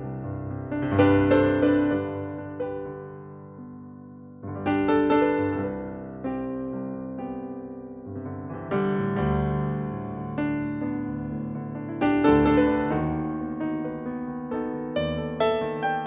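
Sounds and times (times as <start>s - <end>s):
soft solo piano chords: 0.0s - 16.0s.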